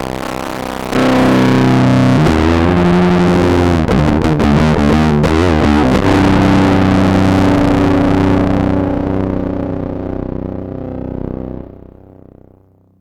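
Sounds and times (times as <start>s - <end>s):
heavily distorted guitar: 0.0s - 12.9s.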